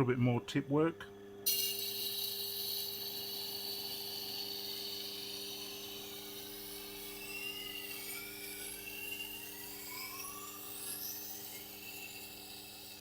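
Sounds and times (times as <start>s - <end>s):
knife scraping on grinding wheel: 1.5s - 13.0s
sharpening machine motor hum: 1.5s - 13.0s.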